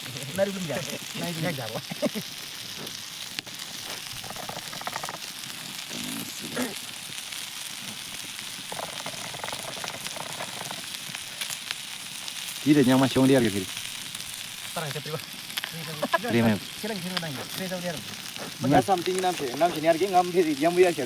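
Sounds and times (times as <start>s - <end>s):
food sizzling over fire: 0.0s - 21.0s.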